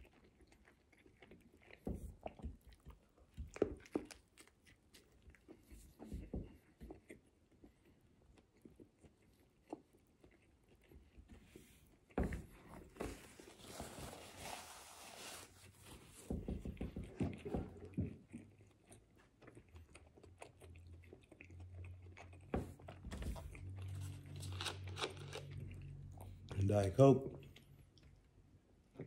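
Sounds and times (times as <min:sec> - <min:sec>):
chewing a sandwich: 0:00.0 - 0:26.7, 0:27.3 - 0:29.0.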